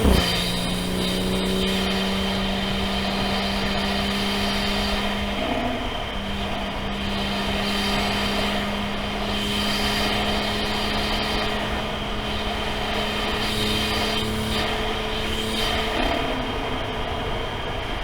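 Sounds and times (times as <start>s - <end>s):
car engine running steadily: 0.0s - 18.0s
tyre and road noise on wet track: 0.0s - 18.0s.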